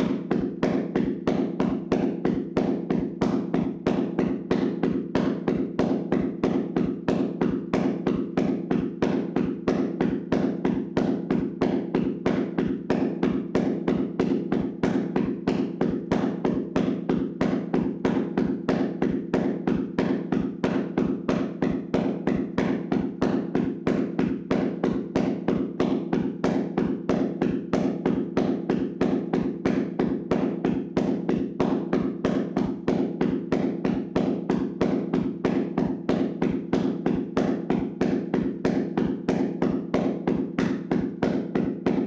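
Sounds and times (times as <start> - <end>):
hands slapping on body: 0.0 - 42.0.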